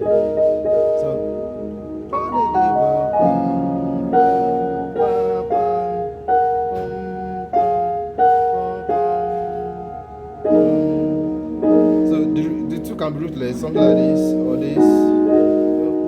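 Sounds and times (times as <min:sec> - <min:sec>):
piano chords ringing: 0:00.0 - 0:16.0.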